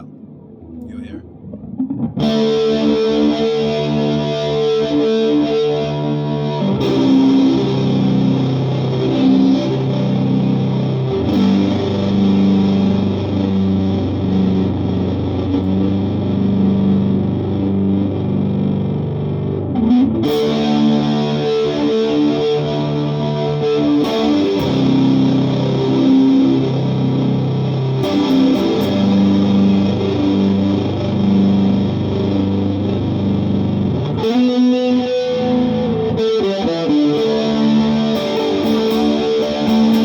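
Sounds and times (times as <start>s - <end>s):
distorted electric guitar chords: 0.0s - 40.0s.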